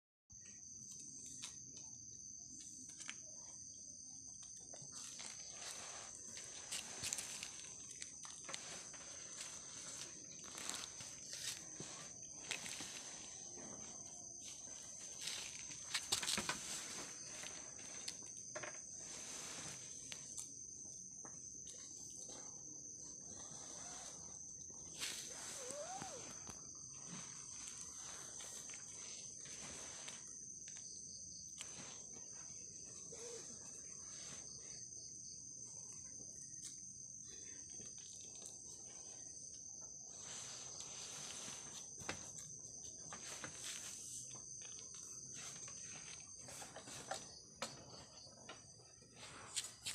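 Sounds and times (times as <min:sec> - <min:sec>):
night insects trilling: 0:00.3 - 0:49.9.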